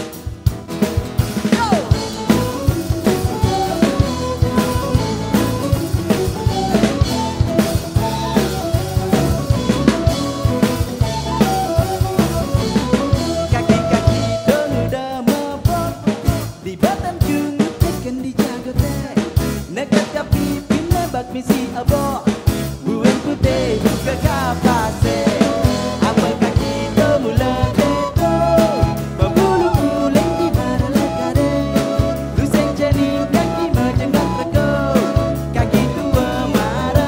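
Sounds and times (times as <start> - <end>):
bass and melodic instruments: 0.0 - 37.0
drum kit beat: 0.0 - 37.0.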